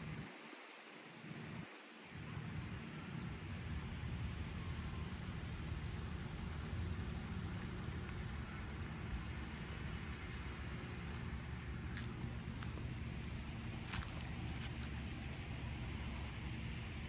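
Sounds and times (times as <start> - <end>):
low rumble and hiss: 0.0 - 17.0.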